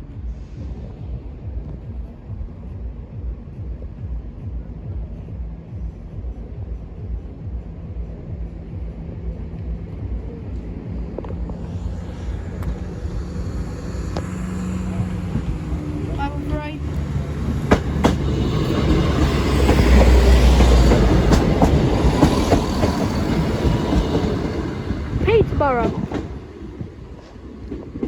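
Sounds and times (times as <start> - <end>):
diesel train rumbling: 0.0 - 28.0.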